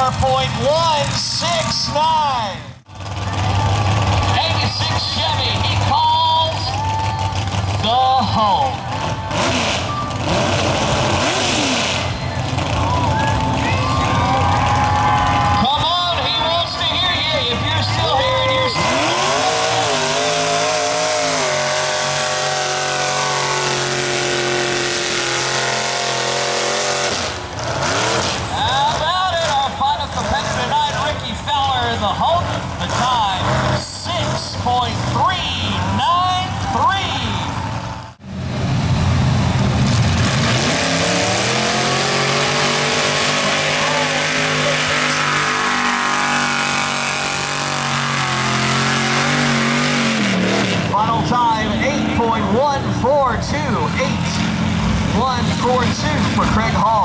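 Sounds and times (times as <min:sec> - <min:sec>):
truck engine revving high: 0:00.0 - 0:57.0.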